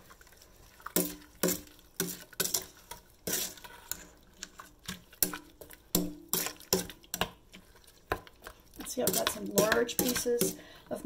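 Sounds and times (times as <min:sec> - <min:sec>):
spoon knocking and scraping saucepan: 0:00.9 - 0:07.4, 0:08.1 - 0:10.7.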